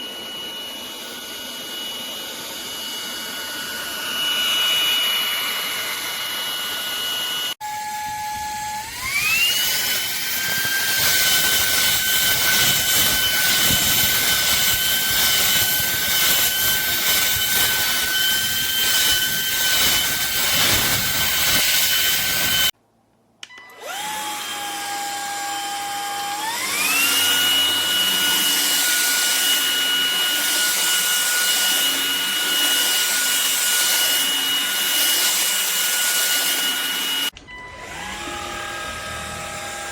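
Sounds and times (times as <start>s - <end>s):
stick vacuum motor whine: 0.0s - 22.7s, 23.4s - 39.9s.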